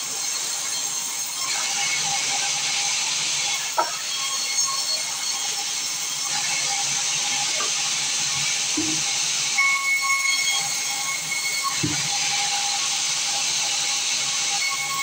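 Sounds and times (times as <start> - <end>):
saw cutting timber: 0.0 - 15.0.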